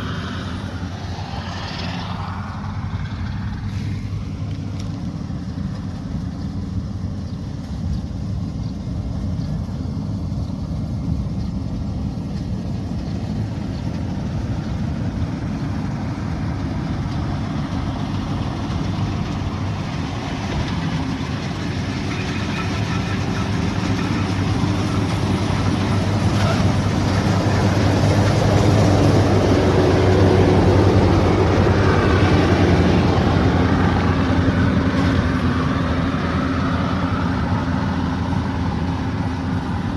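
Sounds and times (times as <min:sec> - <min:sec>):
combine harvester engine humming: 0:00.0 - 0:39.9.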